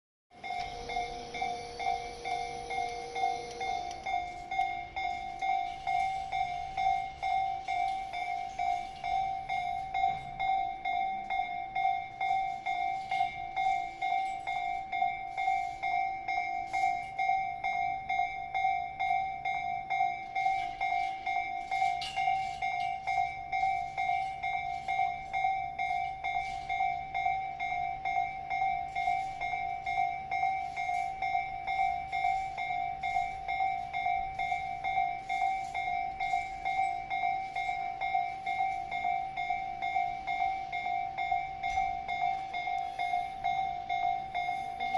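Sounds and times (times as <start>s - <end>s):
faint train passing: 0.4s - 44.9s
level crossing bell dinging: 0.4s - 44.9s.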